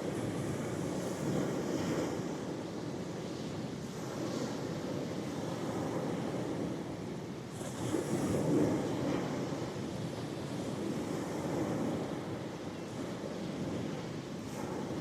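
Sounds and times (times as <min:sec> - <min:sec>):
ocean waves washing ashore: 0:00.0 - 0:15.0
wind on microphone: 0:00.0 - 0:15.0.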